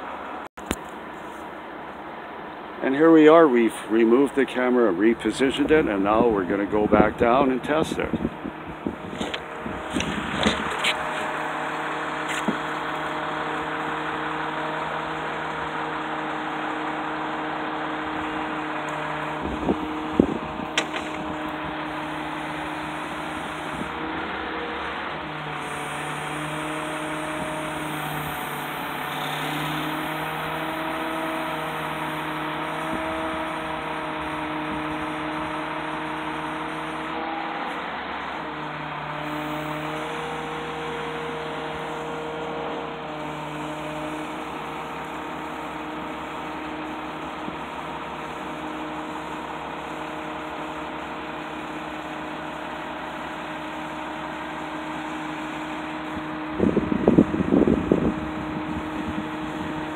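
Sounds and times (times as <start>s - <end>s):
truck engine and hydraulics humming: 0.0s - 59.9s.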